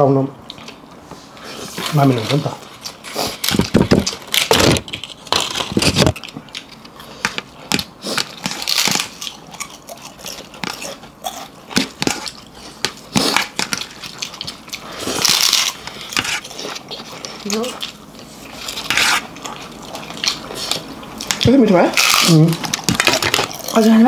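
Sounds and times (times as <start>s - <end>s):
chewing and crunching: 1.6s - 24.0s.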